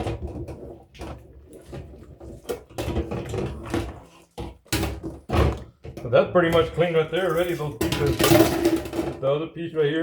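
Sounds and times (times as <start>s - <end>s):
plastic parts knocking in sink: 0.0s - 9.4s.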